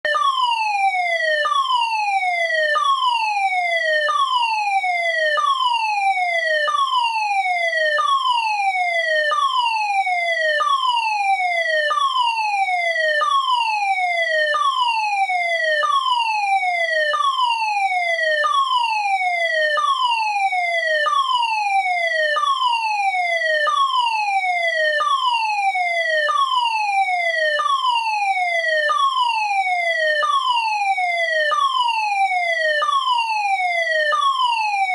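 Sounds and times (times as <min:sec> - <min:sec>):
fire alarm falling sweep tone: 0:00.1 - 0:34.9.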